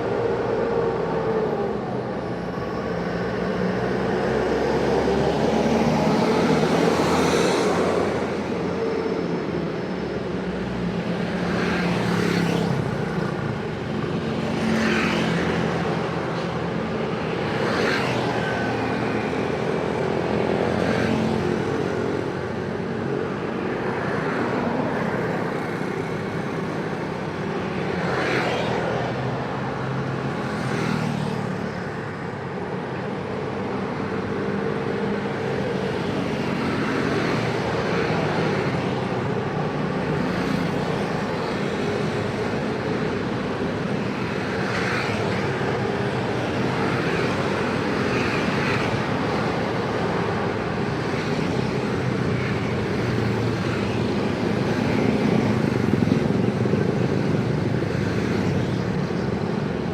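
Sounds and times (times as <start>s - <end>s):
vehicles passing close by: 0.0s - 59.9s.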